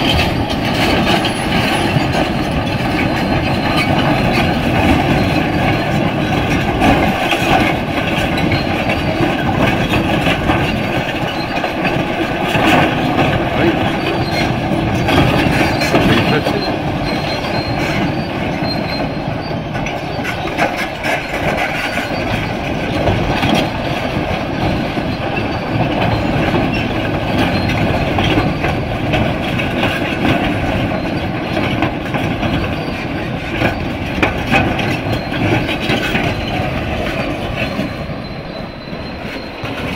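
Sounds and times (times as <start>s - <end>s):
excavator engine running: 0.0s - 39.9s
steel tracks clanking and squealing: 0.0s - 39.9s.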